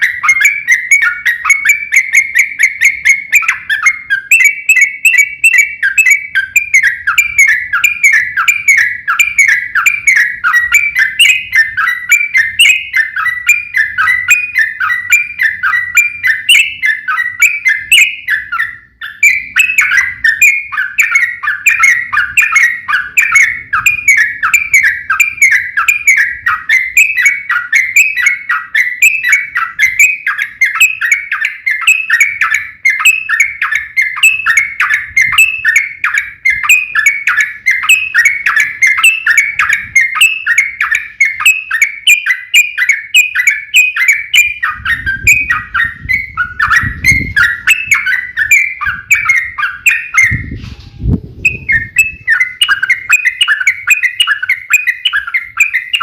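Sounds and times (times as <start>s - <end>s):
bird singing rapid notes: 0.0s - 56.0s.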